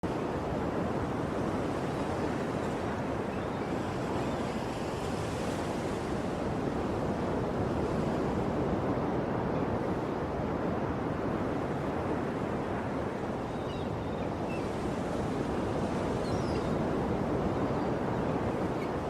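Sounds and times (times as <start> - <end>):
waves washing ashore: 0.0 - 19.0.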